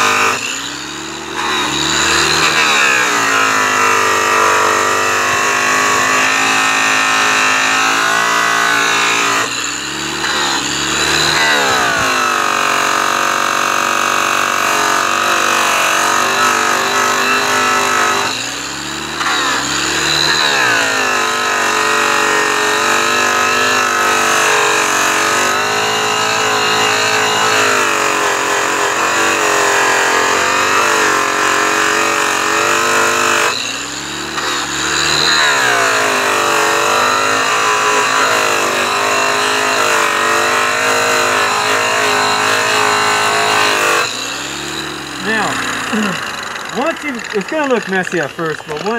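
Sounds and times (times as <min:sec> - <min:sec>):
angle polisher motor whine: 0:00.0 - 0:48.9.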